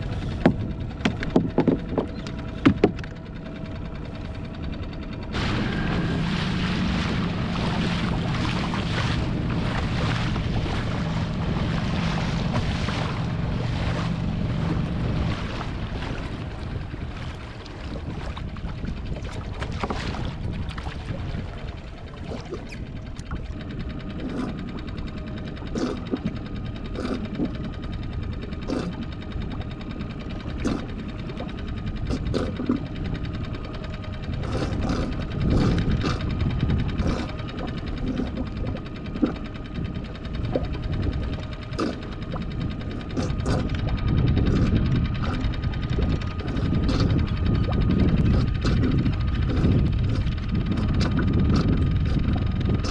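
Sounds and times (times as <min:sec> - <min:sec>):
water noise: 0:00.0 - 0:52.9
wind rumbling on microphone: 0:00.0 - 0:52.9.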